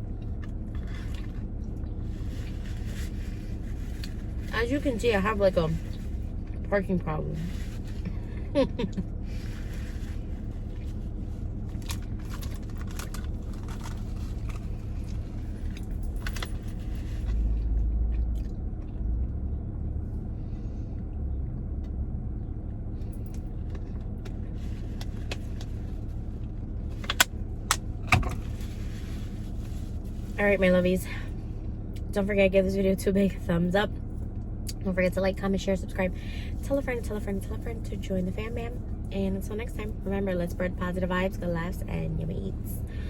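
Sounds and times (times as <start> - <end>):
car engine hum inside cabin: 0.0 - 43.0.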